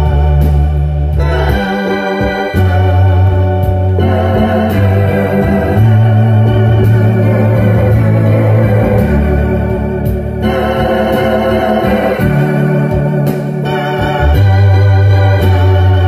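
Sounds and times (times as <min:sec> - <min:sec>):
electronic keyboard playing organ chords: 0:00.0 - 0:16.0.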